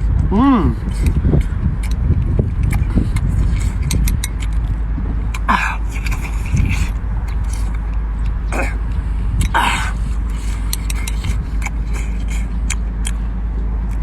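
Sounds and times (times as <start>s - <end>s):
man chewing and smacking: 0.0s - 14.0s
steady low rumble: 0.0s - 14.0s
slurps: 0.7s - 8.8s, 9.4s - 13.2s.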